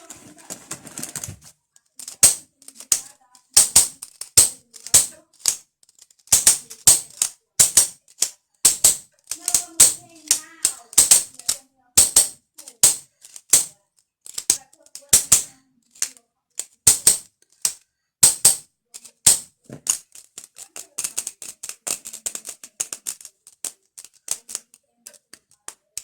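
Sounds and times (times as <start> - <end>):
fingernails tapping on pencil case: 0.0 - 5.6, 6.3 - 13.7, 16.8 - 18.6, 19.2 - 26.0.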